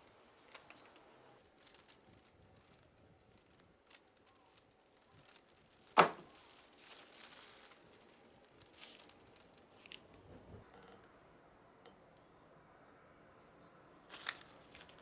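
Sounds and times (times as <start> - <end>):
rustling and crinkling: 0.0 - 11.1, 14.0 - 15.0.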